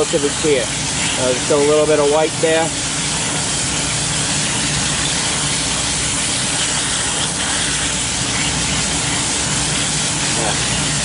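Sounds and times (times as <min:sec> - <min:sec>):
hose water spraying on metal fins: 0:00.0 - 0:11.0.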